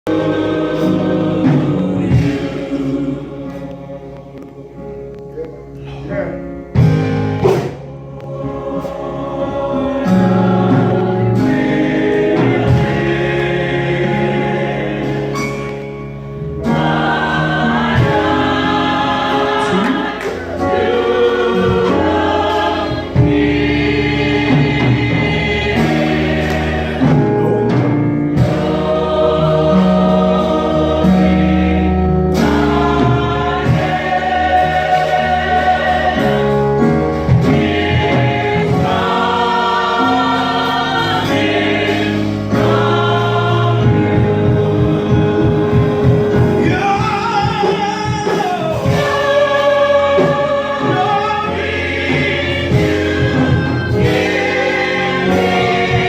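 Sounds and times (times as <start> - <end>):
choir singing gospel song: 0.0 - 56.0
instrumental backing: 0.1 - 56.0.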